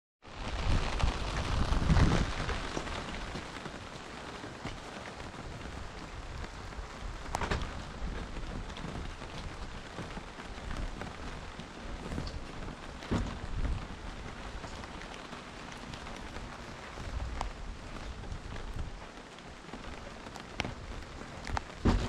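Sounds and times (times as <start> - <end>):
steady rain hiss: 0.2 - 22.0
raindrop taps: 0.4 - 22.0.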